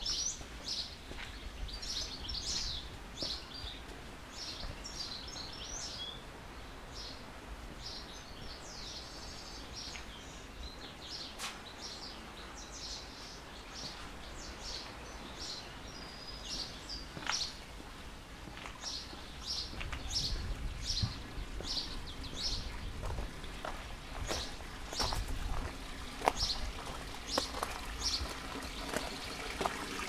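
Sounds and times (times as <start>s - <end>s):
small birds chirping and twittering: 0.0s - 30.0s.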